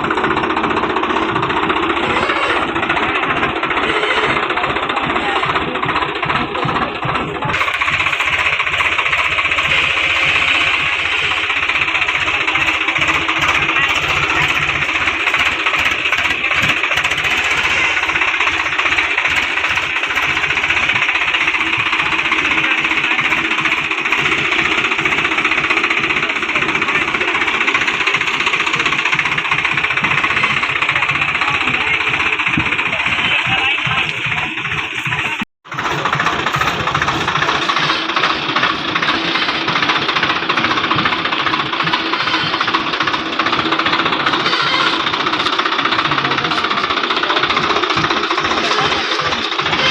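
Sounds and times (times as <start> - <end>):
diesel tractor engine knocking: 0.0 - 49.9.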